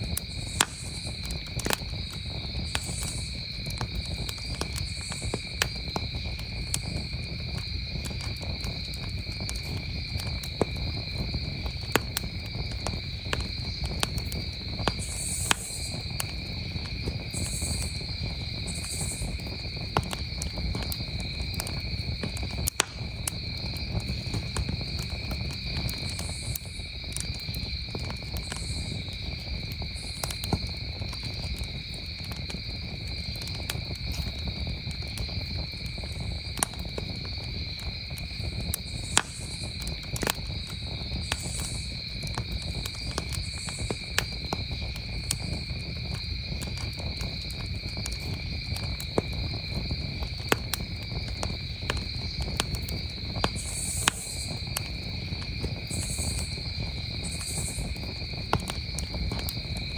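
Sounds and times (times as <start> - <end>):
campfire crackling and popping: 0.0 - 59.9
crickets chirring: 0.0 - 59.9
pulsing high insect call: 0.0 - 59.9.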